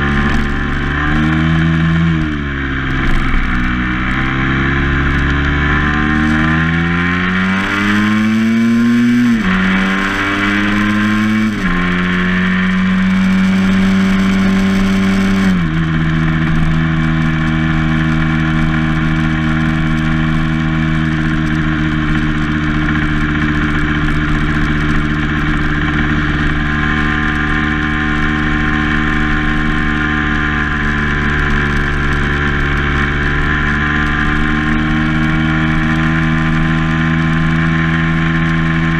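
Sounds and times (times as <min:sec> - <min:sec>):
vehicle engine accelerating: 0:00.0 - 0:38.9
wind and road noise: 0:00.0 - 0:38.9.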